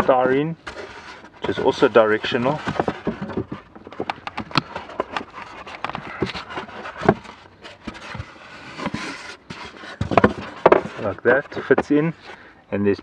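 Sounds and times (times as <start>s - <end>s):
polystyrene cover clicking and scraping: 0.0s - 12.3s.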